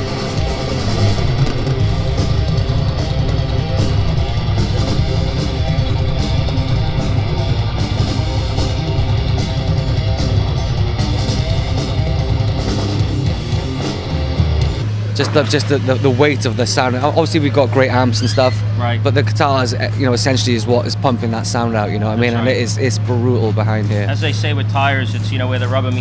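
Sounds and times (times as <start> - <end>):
heavy metal band playing: 0.0 - 26.0.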